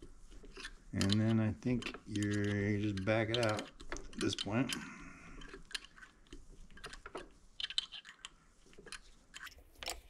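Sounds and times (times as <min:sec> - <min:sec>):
faint metal clicks: 0:00.5 - 0:10.0.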